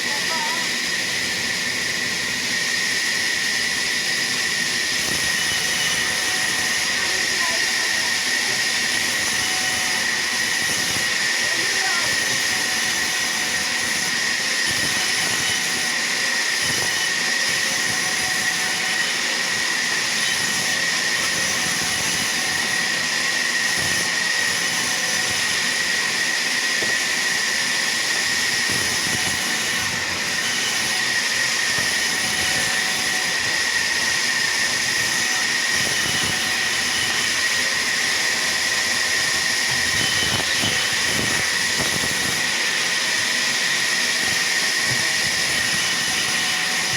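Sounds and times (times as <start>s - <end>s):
sawmill saw whining: 0.0s - 46.9s.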